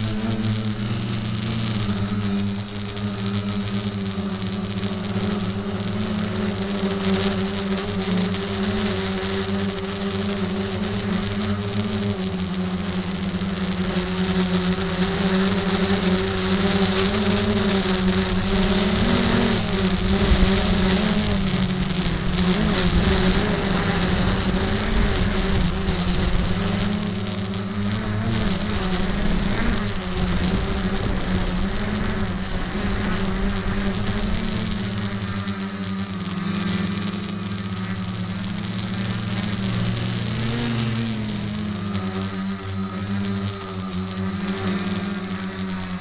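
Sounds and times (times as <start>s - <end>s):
drone propellers buzzing: 0.0s - 46.0s
thin high whine: 0.0s - 46.0s.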